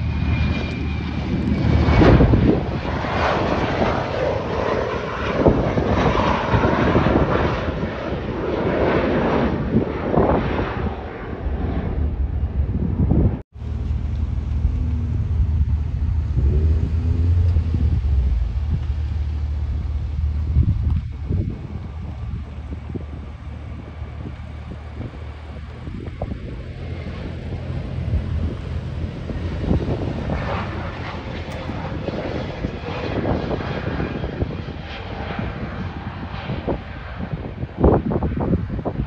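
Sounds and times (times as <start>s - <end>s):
distant jet engines rumbling: 0.0s - 39.0s
wind on microphone: 0.0s - 39.0s.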